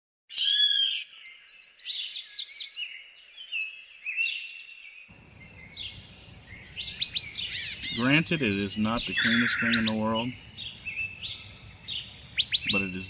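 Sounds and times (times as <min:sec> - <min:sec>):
small birds chirping: 0:00.3 - 0:13.0.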